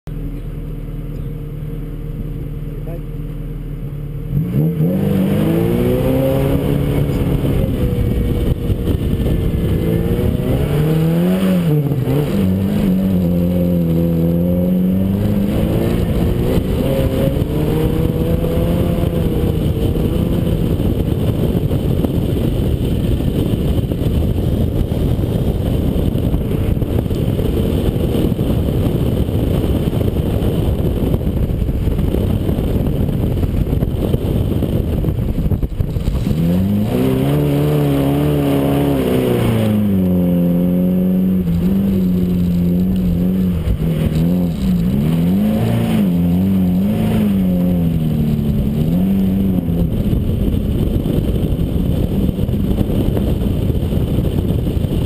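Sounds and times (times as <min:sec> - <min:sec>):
rally car engine revving: 0:00.3 - 0:55.0
wind rush: 0:04.3 - 0:55.0.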